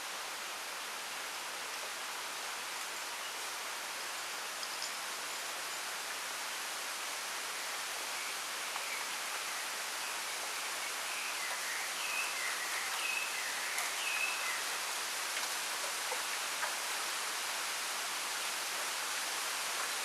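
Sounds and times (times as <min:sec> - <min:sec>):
wind rustling through bamboo: 0:00.0 - 0:20.0.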